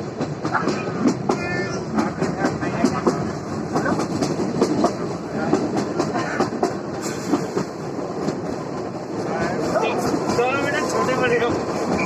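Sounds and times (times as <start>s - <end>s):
train running noise: 0.0s - 12.0s
train wheels clattering on rails: 0.0s - 12.0s.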